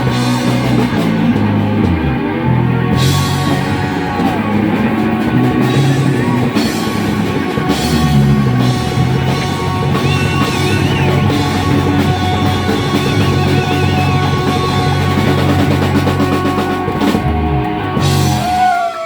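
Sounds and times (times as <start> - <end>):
lead guitar vibrato notes: 0.0 - 18.5
rock band playing: 0.0 - 19.0.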